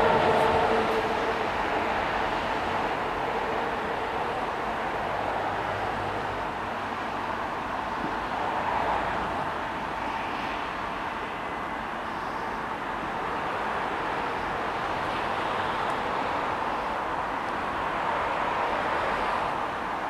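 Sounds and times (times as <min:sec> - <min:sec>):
distant electric train: 0:00.0 - 0:20.0
road traffic: 0:00.0 - 0:20.0.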